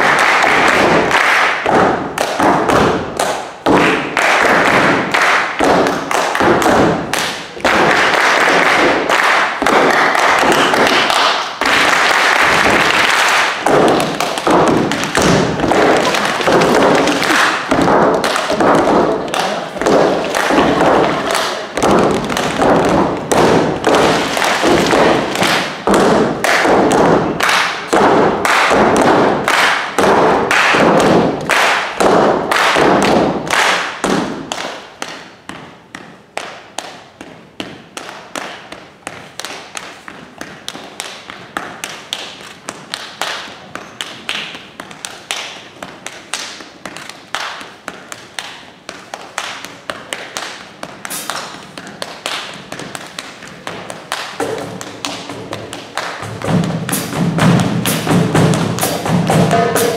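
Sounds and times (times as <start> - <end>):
foot stomps: 0.0 - 36.2, 37.1 - 59.9
hands clapping: 0.0 - 59.9.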